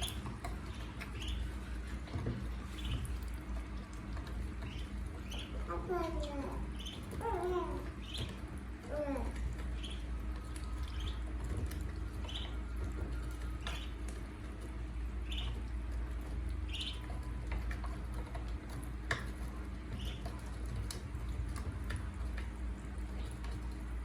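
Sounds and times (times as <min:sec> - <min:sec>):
ducklings peeping: 0:00.0 - 0:23.8.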